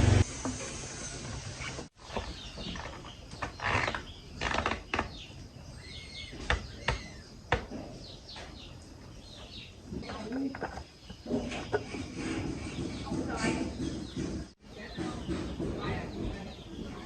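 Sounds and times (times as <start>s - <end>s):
birds chirping: 0.9s - 17.0s.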